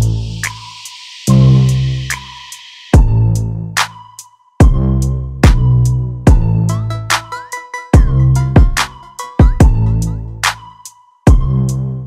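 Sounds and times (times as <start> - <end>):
hip-hop beat: 0.0 - 12.0.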